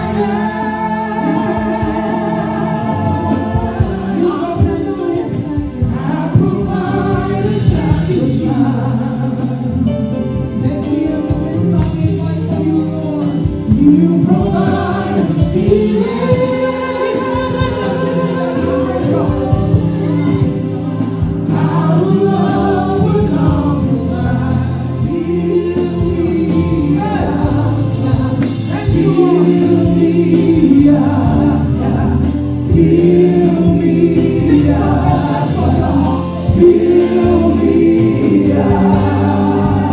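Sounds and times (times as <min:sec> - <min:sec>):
choir singing: 0:00.0 - 0:39.9
woman singing into microphone: 0:00.0 - 0:39.9.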